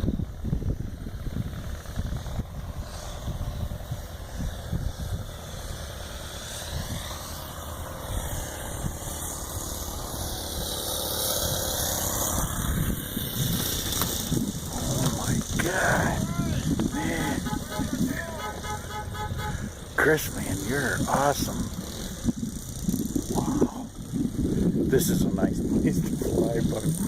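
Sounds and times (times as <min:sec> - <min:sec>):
model airplane engine in flight: 0:00.0 - 0:27.0
wind rumbling on microphone: 0:00.0 - 0:27.0.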